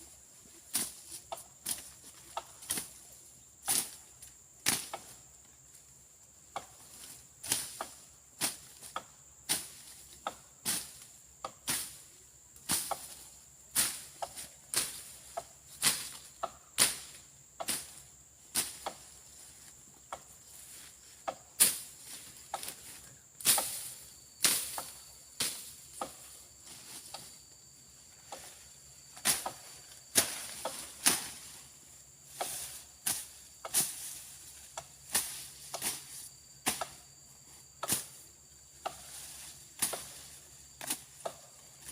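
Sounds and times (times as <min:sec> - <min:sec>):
insect drone: 0:00.0 - 0:41.9
machete chopping brush: 0:00.7 - 0:03.0, 0:03.6 - 0:04.0, 0:04.6 - 0:05.2, 0:07.4 - 0:12.0, 0:12.6 - 0:19.2, 0:20.2 - 0:27.3, 0:28.2 - 0:37.1, 0:37.8 - 0:41.9.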